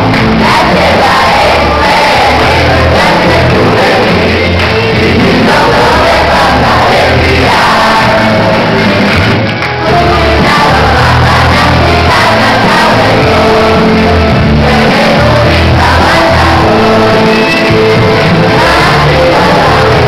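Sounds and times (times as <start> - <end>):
crowd shouting: 0.0 - 20.0
crowd singing an anthem: 0.0 - 20.0.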